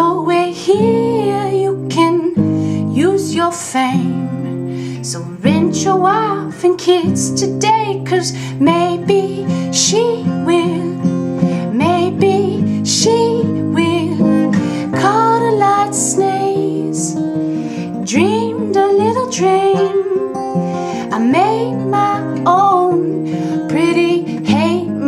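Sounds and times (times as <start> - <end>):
strummed acoustic guitar: 0.0 - 25.0
woman singing: 0.0 - 25.0.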